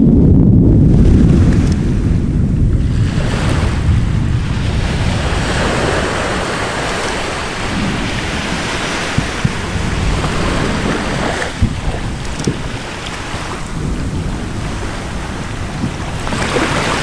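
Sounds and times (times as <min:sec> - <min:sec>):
volcano rumble and rushing: 0:00.0 - 0:17.0.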